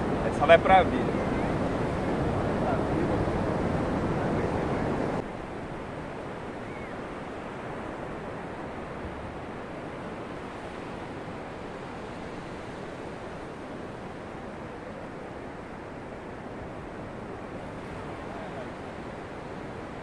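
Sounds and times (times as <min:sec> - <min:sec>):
surf washing on a sandy beach: 0:00.0 - 0:20.0.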